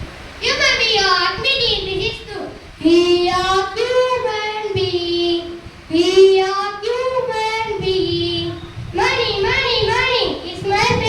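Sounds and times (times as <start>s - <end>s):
child singing: 0.4s - 11.0s.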